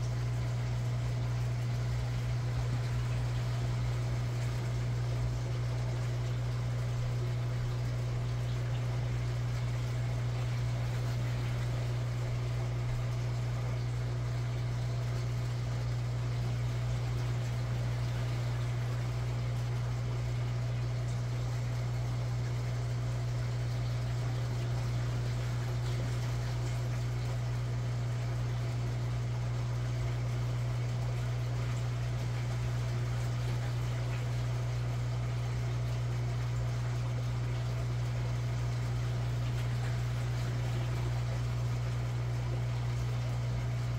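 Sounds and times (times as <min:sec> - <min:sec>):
air pump humming: 0:00.0 - 0:43.9.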